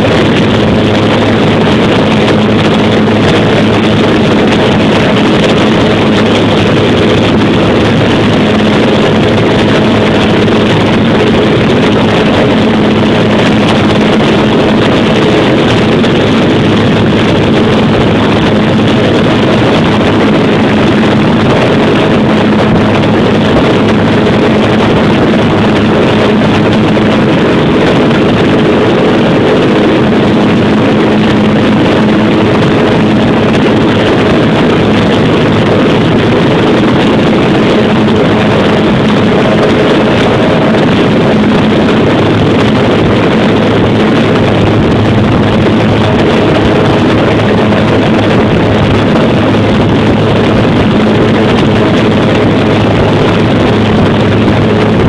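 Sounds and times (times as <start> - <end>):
turboprop engine drone: 0.0 - 55.0
wind noise: 0.0 - 55.0.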